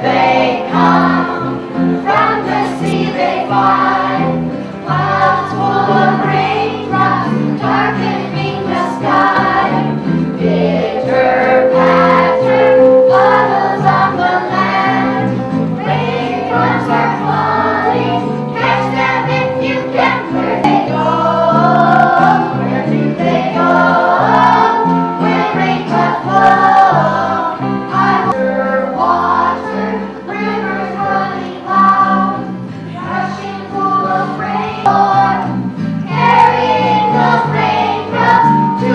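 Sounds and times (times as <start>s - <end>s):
children's choir singing: 0.0s - 38.9s
instrumental accompaniment: 0.0s - 38.9s.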